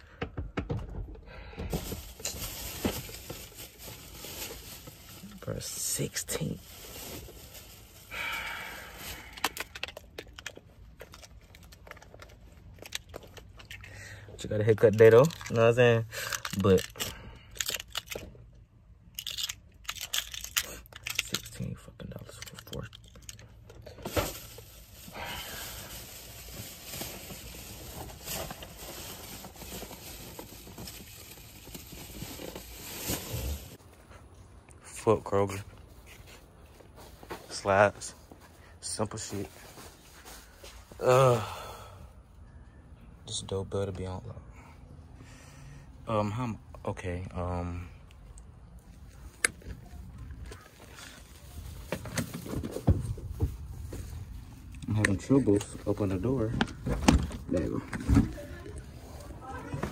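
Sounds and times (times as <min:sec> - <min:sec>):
rustling and handling noise: 0:00.0 - 0:41.0, 0:48.1 - 0:59.9.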